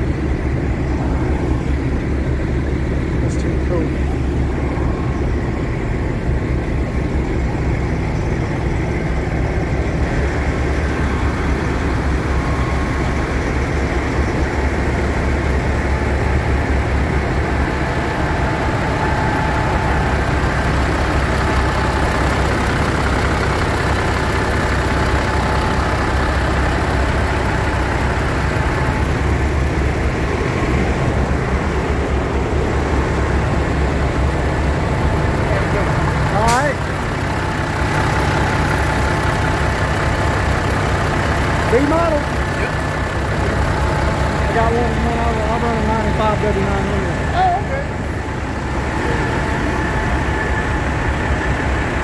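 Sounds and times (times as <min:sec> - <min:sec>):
truck engine idling: 0:00.0 - 0:52.0.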